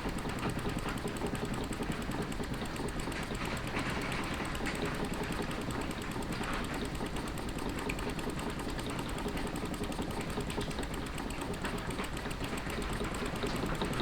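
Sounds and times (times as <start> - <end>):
model steam engine running: 0.0 - 14.0.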